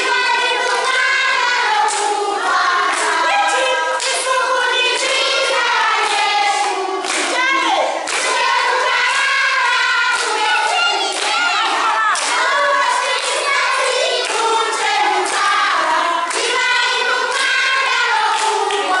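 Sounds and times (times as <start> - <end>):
children singing together: 0.0 - 19.0
hand claps: 0.0 - 19.0.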